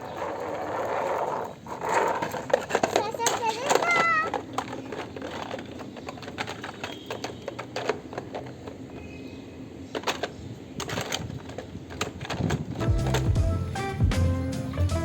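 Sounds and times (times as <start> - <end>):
plastic toy vehicles clattering: 0.0 - 13.5.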